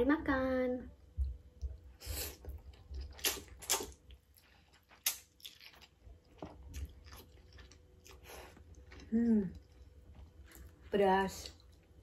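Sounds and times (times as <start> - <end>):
chewing: 1.6 - 12.0.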